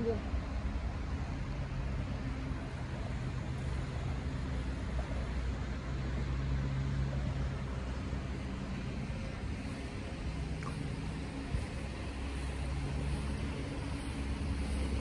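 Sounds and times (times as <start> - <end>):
low hum: 0.0 - 15.0
broad even rush: 1.2 - 15.0.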